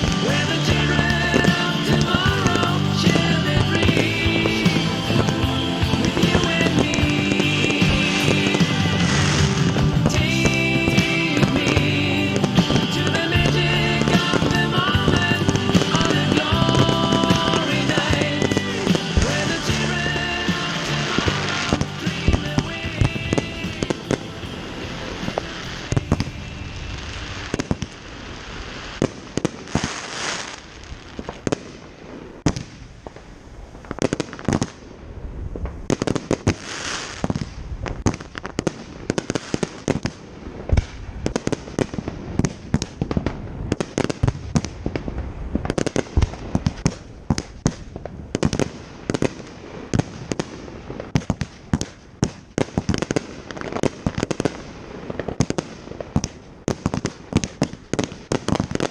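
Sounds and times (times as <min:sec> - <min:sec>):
fireworks booming: 0:00.0 - 0:58.9
fireworks hissing: 0:00.0 - 0:58.9.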